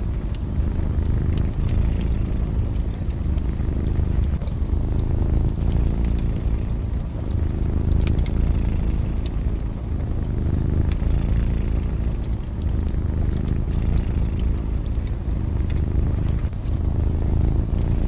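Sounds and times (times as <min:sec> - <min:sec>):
cat purring: 0:00.0 - 0:18.0
fireplace crackling and popping: 0:00.0 - 0:18.0.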